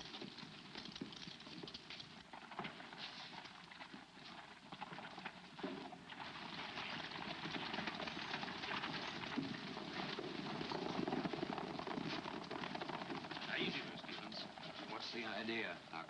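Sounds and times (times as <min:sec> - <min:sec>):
horses' hooves galloping: 0:00.0 - 0:16.0.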